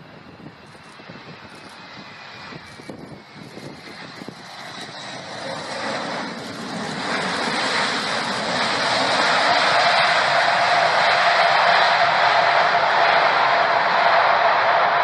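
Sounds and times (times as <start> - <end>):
jet-like rushing roar: 0.0 - 15.0.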